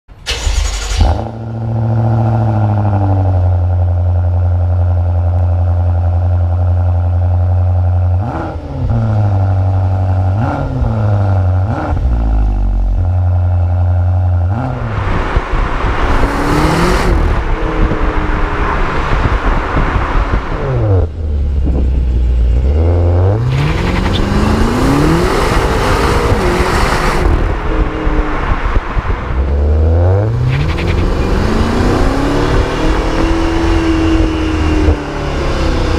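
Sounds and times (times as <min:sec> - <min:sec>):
car engine revving and idling: 0:00.1 - 0:35.9.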